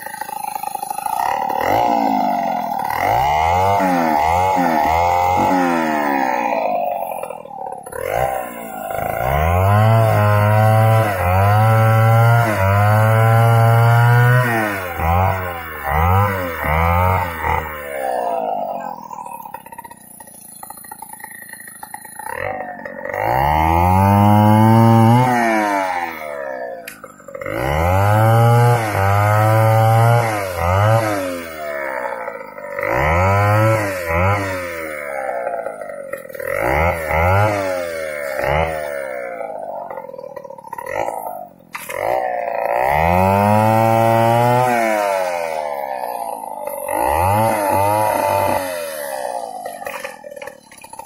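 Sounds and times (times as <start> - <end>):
chainsaw cutting log: 0.0 - 51.0.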